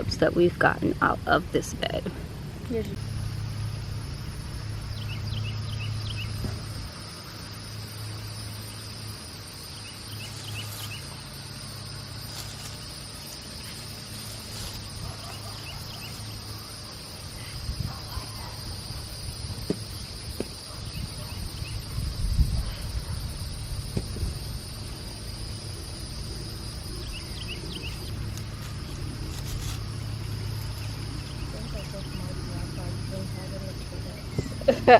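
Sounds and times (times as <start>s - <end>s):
insects droning: 0.0s - 34.9s
low steady hum: 0.0s - 34.9s.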